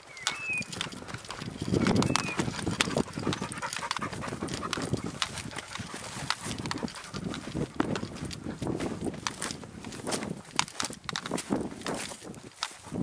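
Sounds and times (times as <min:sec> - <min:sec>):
footsteps through dry scrub: 0:00.0 - 0:13.0.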